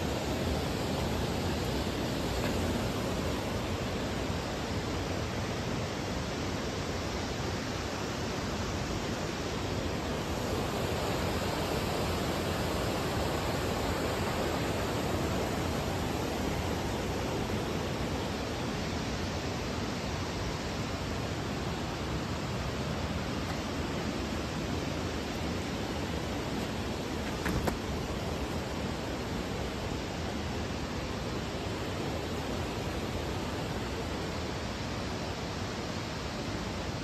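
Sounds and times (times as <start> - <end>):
river water rushing over weir: 0.0 - 37.0.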